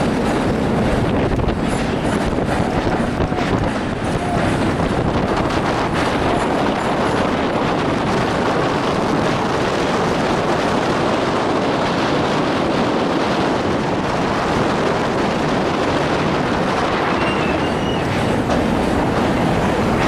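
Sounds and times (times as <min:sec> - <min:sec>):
train rushing noise: 0:00.0 - 0:20.0
wind buffeting microphone: 0:00.0 - 0:20.0.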